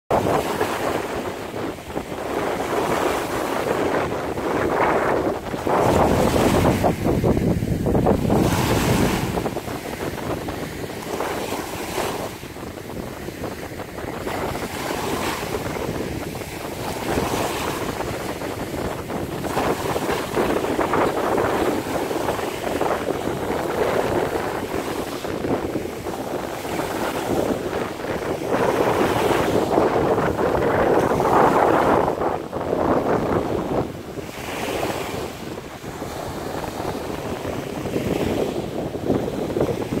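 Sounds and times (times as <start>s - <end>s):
small waves washing: 0.1s - 40.0s
wind gusting over microphone: 0.1s - 40.0s.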